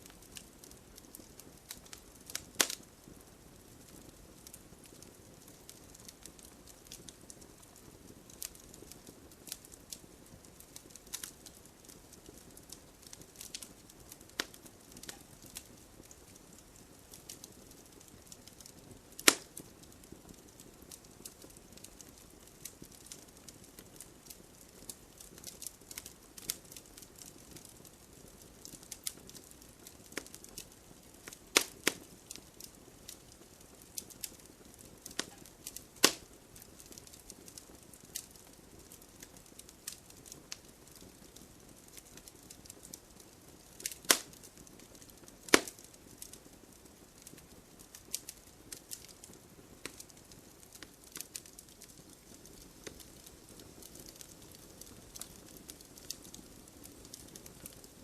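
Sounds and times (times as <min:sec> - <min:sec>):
campfire crackling: 0:00.0 - 0:58.0
loud sharp cracks of fire: 0:00.0 - 0:58.0.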